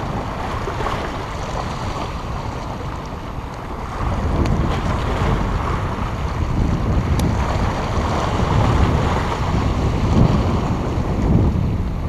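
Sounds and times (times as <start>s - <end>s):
waves splashing against boulders: 0.0s - 12.0s
wind buffeting microphone: 0.0s - 12.0s.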